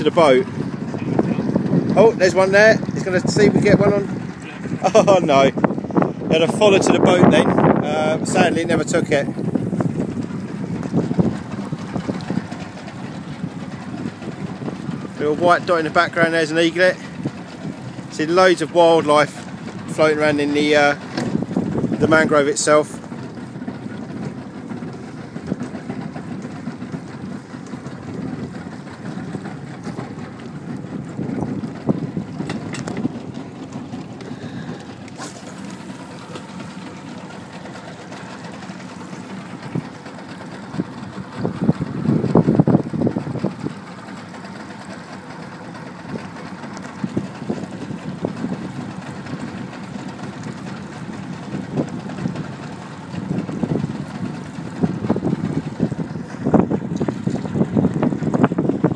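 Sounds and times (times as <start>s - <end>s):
boat low rumble: 0.0s - 58.9s
wind buffeting microphone: 0.0s - 58.9s.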